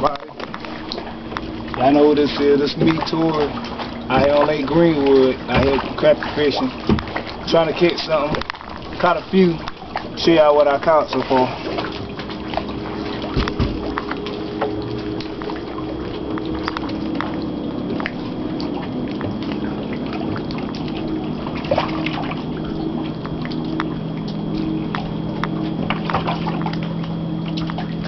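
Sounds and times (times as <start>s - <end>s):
steady low hum: 0.0s - 28.0s
water sloshing and trickling: 0.0s - 28.0s.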